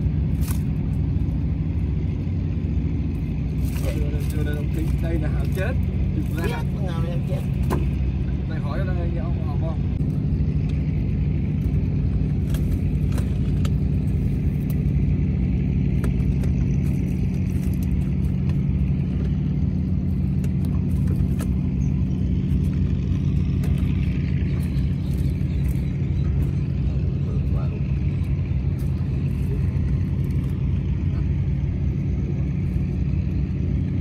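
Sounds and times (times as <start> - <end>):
engine humming steadily: 0.0 - 34.0.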